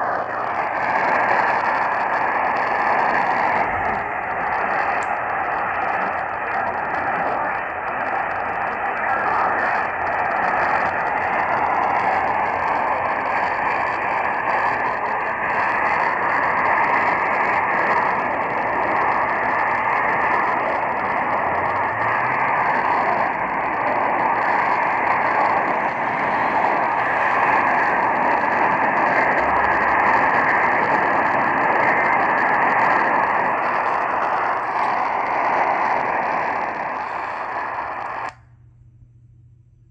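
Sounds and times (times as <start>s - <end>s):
radio static hiss: 0.0s - 38.5s.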